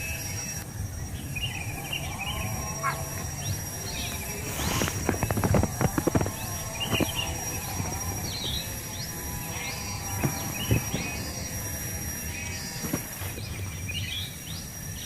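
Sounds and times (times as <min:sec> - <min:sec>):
pulsing insect drone: 0:00.0 - 0:15.0
bird chirps: 0:00.1 - 0:15.0.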